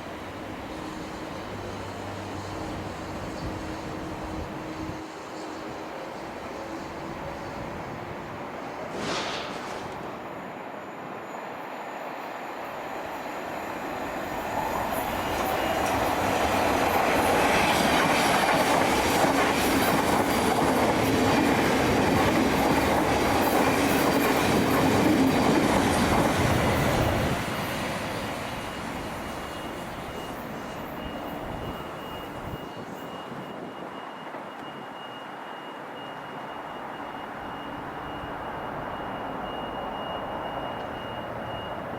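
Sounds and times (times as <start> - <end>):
electric train passing: 0.0 - 41.9.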